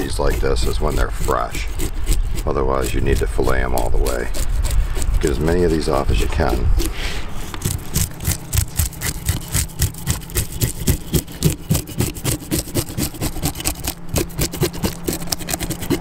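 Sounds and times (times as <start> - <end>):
knife scraping fish scales: 0.0 - 16.0.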